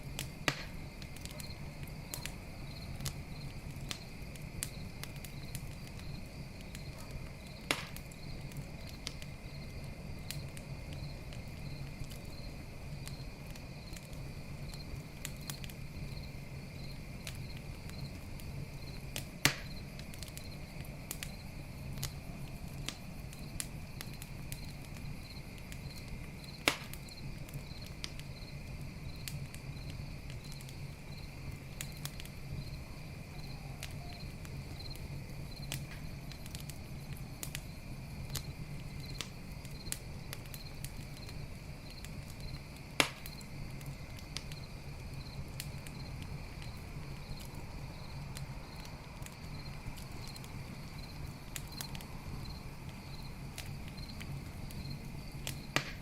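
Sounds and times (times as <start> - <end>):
campfire crackling: 0.0 - 56.0
crickets chirring: 0.0 - 56.0
loud fire pops: 0.0 - 56.0.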